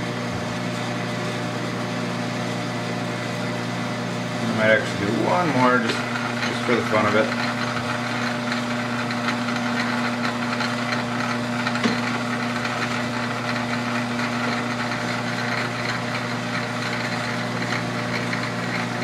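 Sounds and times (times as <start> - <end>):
lathe motor and gear hum: 0.0 - 19.0.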